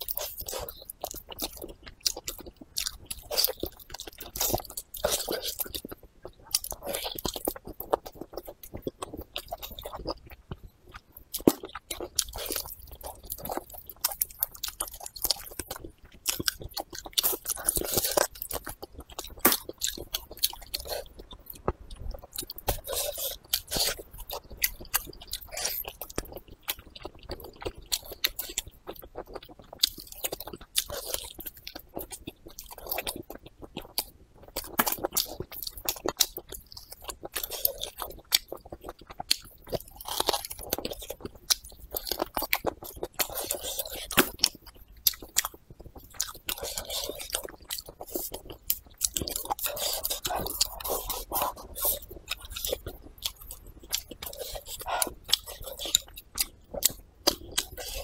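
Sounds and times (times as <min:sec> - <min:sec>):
eating clicks and smacks: 0:00.0 - 0:58.0
person chewing food: 0:00.0 - 0:58.0.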